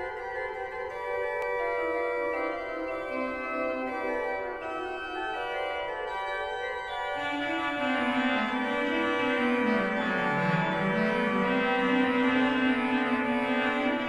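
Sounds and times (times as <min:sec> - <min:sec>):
pipe organ playing: 0:00.0 - 0:14.0.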